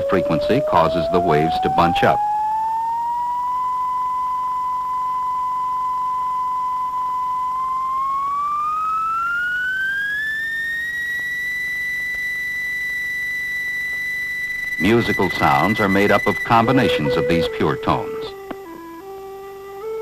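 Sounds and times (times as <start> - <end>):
sine-wave tone gliding up: 0.0 - 20.0.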